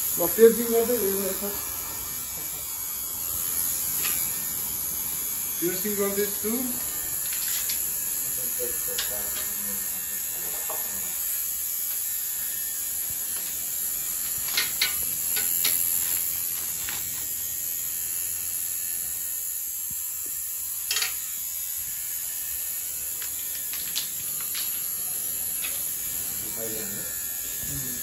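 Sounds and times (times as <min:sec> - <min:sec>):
electric device buzzing: 0:00.0 - 0:28.0.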